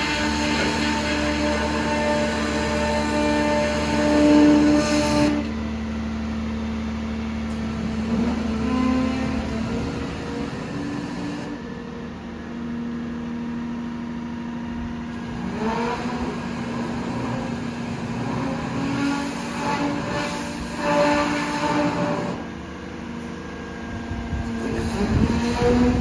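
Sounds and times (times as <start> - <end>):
diesel engine and hydraulics running: 0.0 - 26.0.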